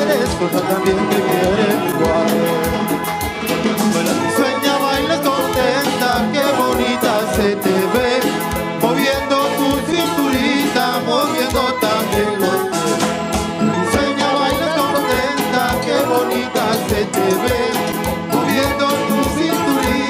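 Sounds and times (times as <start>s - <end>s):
congas: 0.0s - 20.0s
keyboard melody: 0.0s - 20.0s
maracas: 0.0s - 20.0s.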